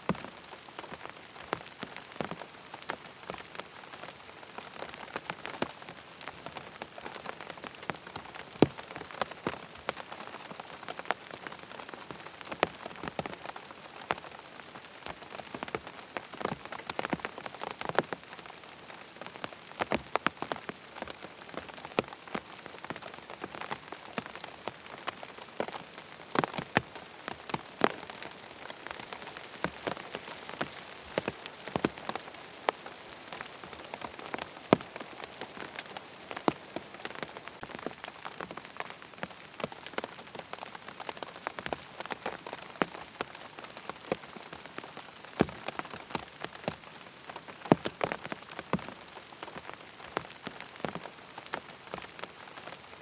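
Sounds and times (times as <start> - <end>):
rain on a hard surface: 0.0 - 53.0.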